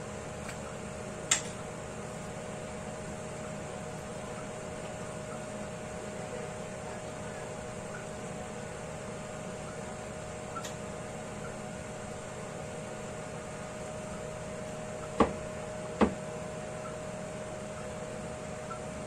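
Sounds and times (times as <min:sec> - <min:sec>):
range hood fan humming: 0:00.0 - 0:19.0.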